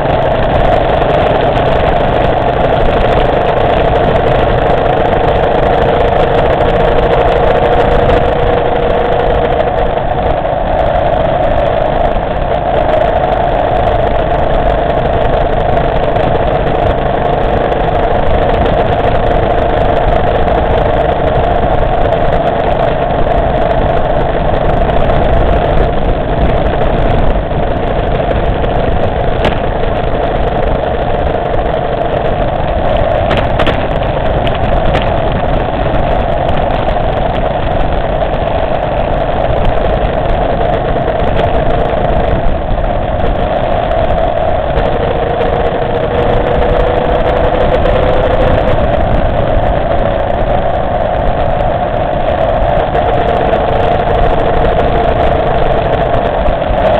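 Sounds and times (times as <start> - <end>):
motorcycle engine cruising: 0.0 - 56.9
wind and road noise: 0.0 - 56.9.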